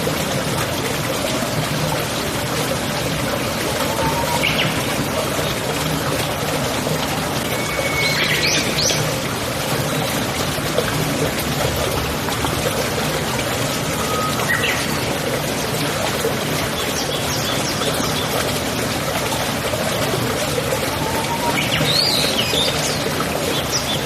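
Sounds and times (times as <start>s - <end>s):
stream running water: 0.0s - 24.0s.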